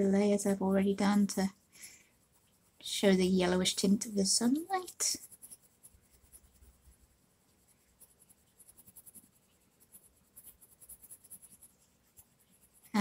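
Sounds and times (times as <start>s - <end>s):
coloured pencil scratching on paper: 0.0s - 13.0s.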